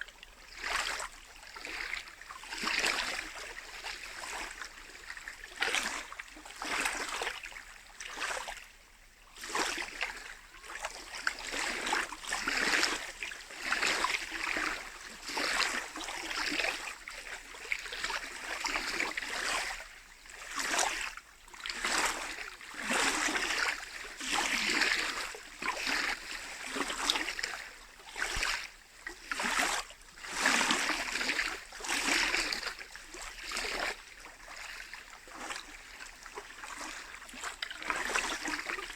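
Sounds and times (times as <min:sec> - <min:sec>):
lake waves lapping on shore: 0:00.0 - 0:08.7, 0:09.4 - 0:38.9.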